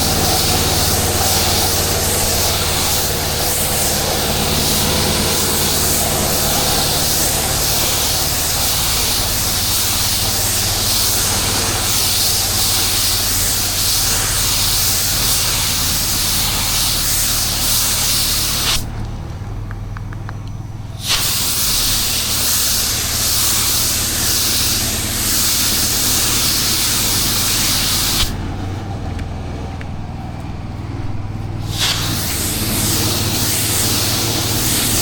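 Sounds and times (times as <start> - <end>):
pressure washer spray hissing: 0.0 - 18.9, 21.0 - 28.5, 31.5 - 35.0
engine humming: 0.0 - 35.0.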